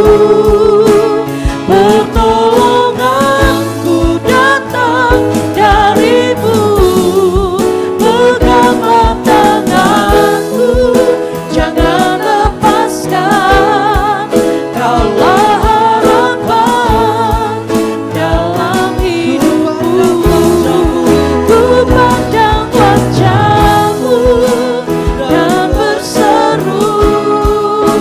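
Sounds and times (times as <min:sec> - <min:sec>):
band accompaniment: 0:00.0 - 0:28.0
person singing with vibrato: 0:00.0 - 0:28.0
steady drum beat: 0:00.0 - 0:28.0.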